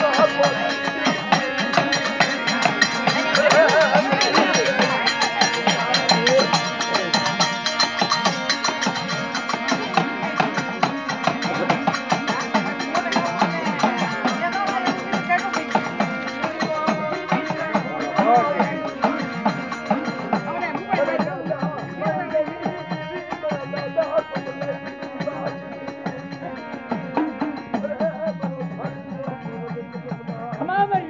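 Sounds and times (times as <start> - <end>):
fast steady percussion: 0.0 - 31.0
wavering melodic voice: 0.0 - 31.0.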